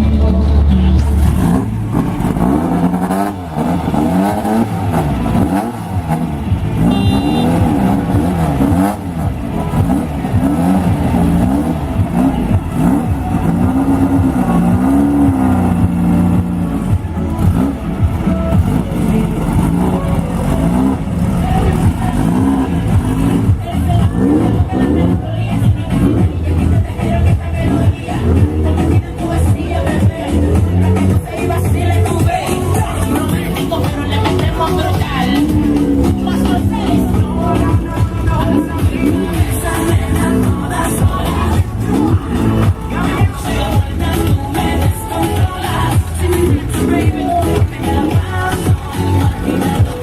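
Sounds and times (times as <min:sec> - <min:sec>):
race vehicle engines revving: 0:00.0 - 0:50.0.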